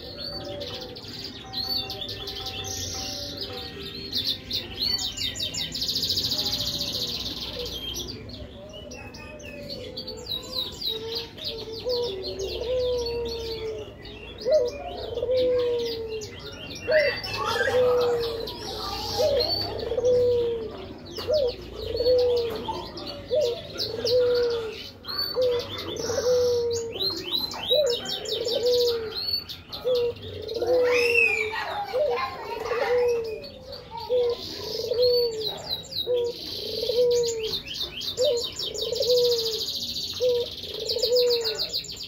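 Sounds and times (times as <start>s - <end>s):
dove cooing: 0.0s - 3.7s, 6.4s - 41.8s.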